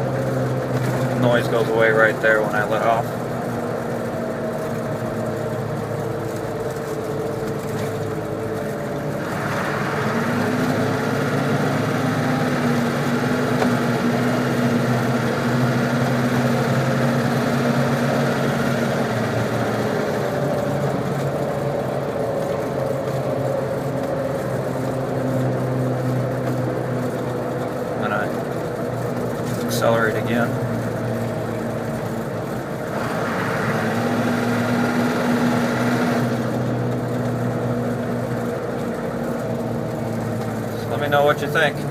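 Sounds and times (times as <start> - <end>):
diesel engine under throttle: 0.0 - 41.9.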